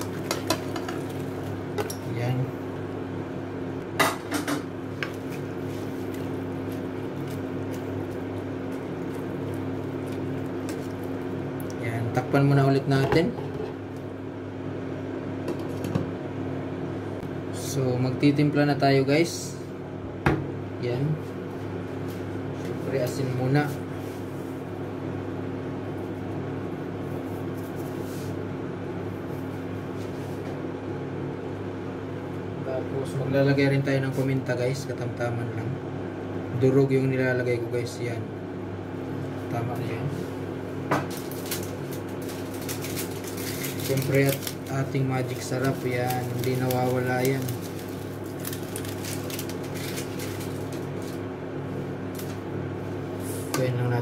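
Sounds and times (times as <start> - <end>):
induction cooktop humming: 0.0 - 54.0.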